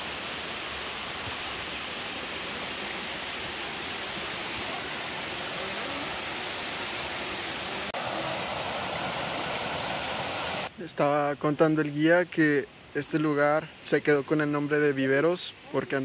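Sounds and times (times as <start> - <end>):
flowing spring water: 0.0 - 16.0.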